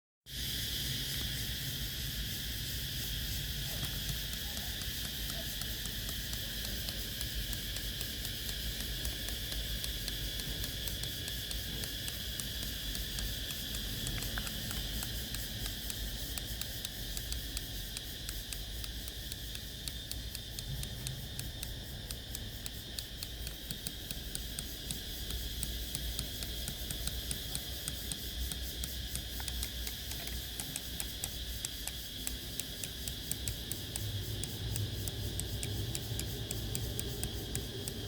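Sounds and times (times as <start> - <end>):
steady hiss: 0.3 - 38.0
tape mechanism clicking: 3.2 - 38.0.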